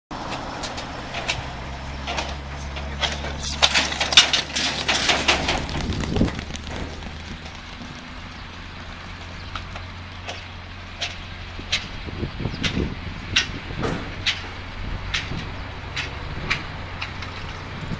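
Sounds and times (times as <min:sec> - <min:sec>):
sharp cracks and clattering knocks: 0:00.3 - 0:12.0, 0:12.6 - 0:17.6.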